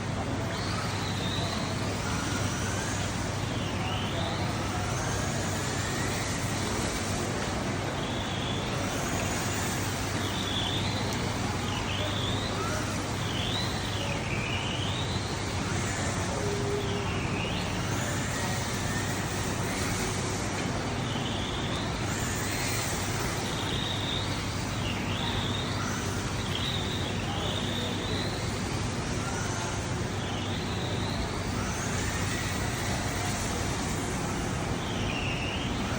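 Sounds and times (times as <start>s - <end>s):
toy car electric motor whining: 0.0s - 35.9s.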